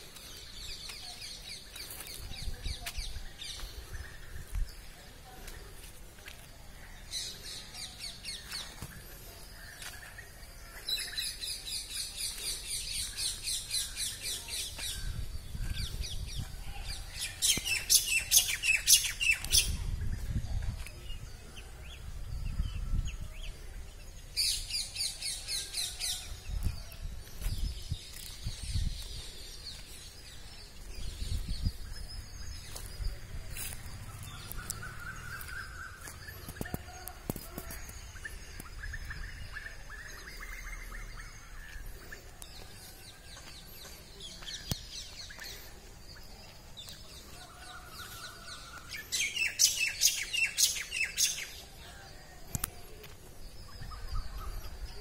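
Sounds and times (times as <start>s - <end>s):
birds chirping rapidly: 6.7s - 55.0s.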